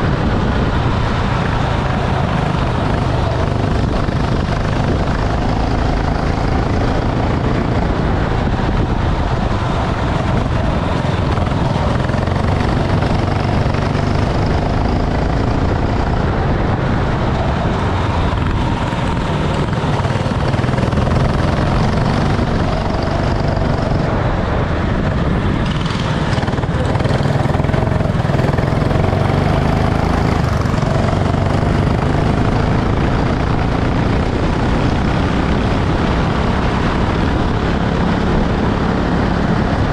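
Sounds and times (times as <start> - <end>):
go-kart engine racing: 0.0 - 39.9
heavy low rumble: 0.0 - 39.9.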